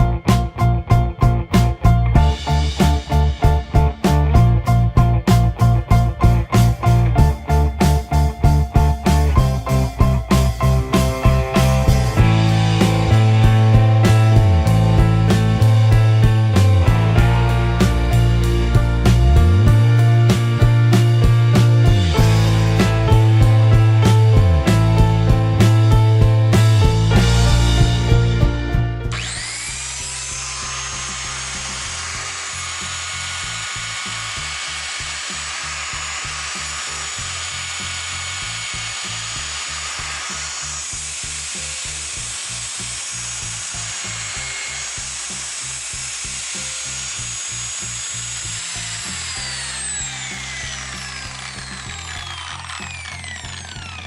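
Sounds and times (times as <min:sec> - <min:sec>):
electric wood router whining: 0:01.6 - 0:04.5, 0:06.1 - 0:54.0.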